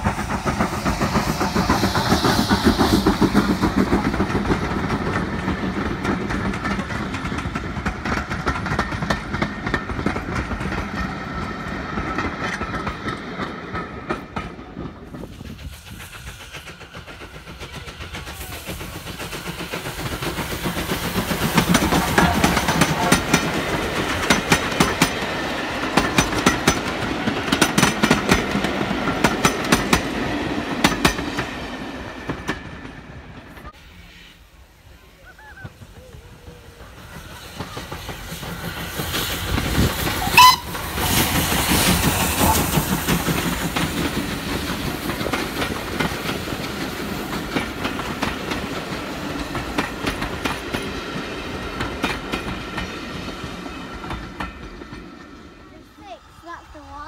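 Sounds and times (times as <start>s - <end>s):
train wheels clickety-clack: 0.0s - 33.8s, 35.4s - 57.0s
steam locomotive running: 0.0s - 57.0s.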